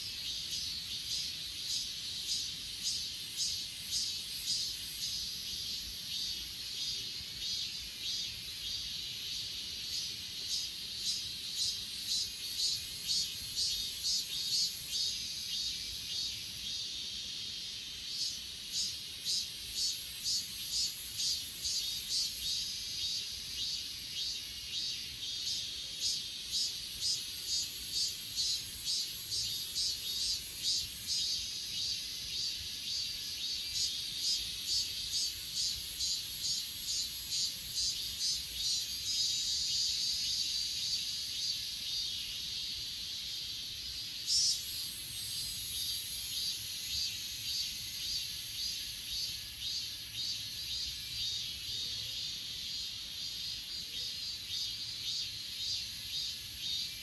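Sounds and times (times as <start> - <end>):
crickets chirping: 0.0 - 57.0
insect buzzing trill: 9.3 - 57.0.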